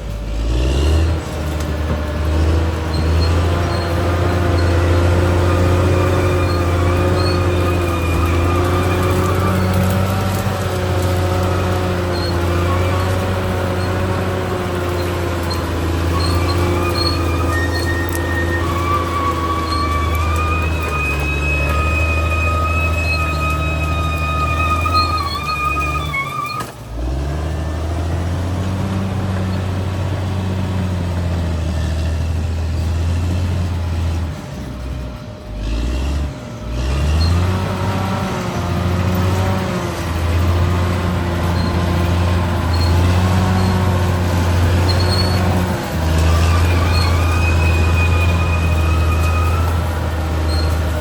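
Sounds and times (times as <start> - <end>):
bulldozer diesel engine: 0.0 - 51.0.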